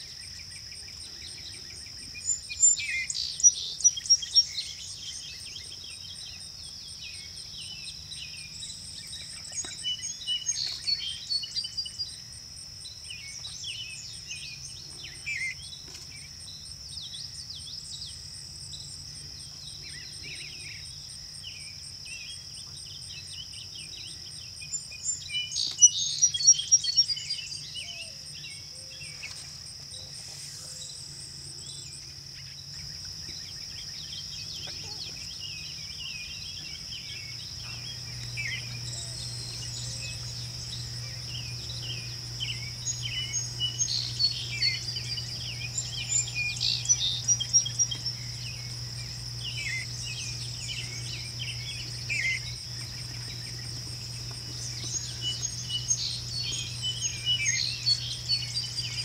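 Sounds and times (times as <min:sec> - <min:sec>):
faint low hum: 0:00.0 - 0:59.0
high-pitched insect drone: 0:00.0 - 0:59.0
songbird chirps and calls: 0:00.0 - 0:59.0.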